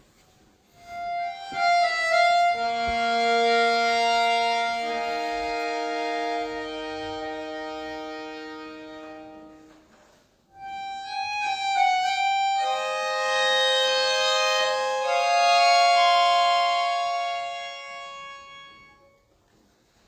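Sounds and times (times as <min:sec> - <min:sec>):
accordion playing slow piece: 0:00.0 - 0:19.4.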